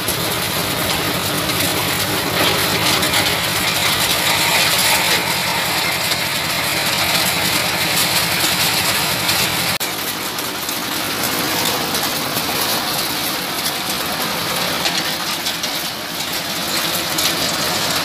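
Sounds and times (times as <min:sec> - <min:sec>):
grinding machine rattling: 0:00.0 - 0:18.0.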